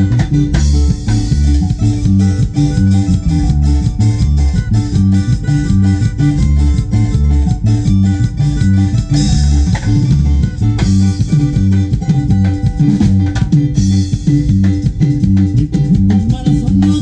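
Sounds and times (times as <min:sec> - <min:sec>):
bass line: 0:00.0 - 0:17.0
drums: 0:00.0 - 0:17.0
plucked guitar notes: 0:00.0 - 0:17.0.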